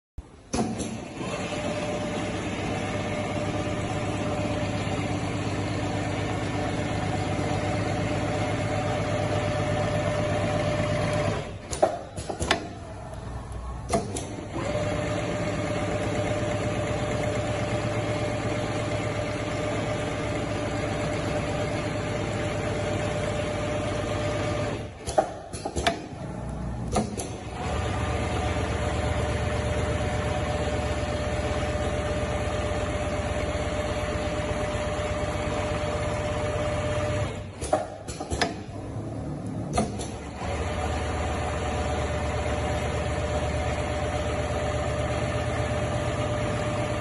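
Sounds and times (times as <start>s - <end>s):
sewing machine stitching: 0.6s - 12.9s, 13.8s - 47.0s.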